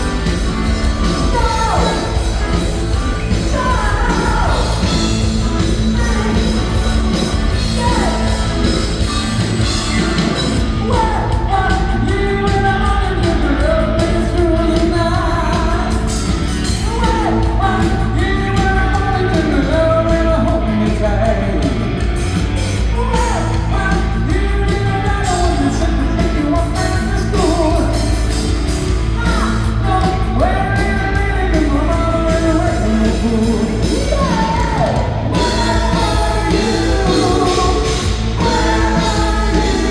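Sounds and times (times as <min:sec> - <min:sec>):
lead vocalist singing: 0:00.0 - 0:22.2, 0:22.8 - 0:39.9
live rock band playing: 0:00.0 - 0:39.9.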